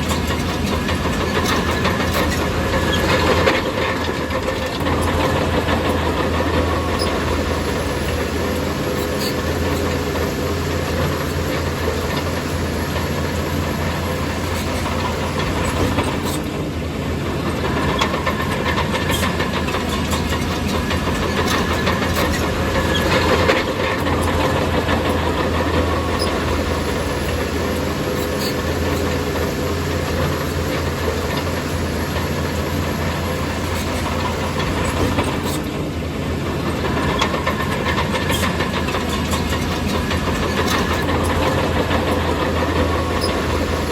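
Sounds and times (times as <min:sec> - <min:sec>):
bulldozer diesel engine droning: 0:00.0 - 0:43.9.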